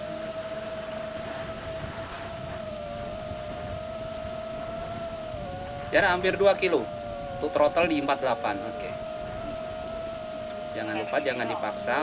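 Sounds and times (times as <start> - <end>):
drone propellers whining: 0.0 - 12.0
wind rushing: 0.0 - 12.0.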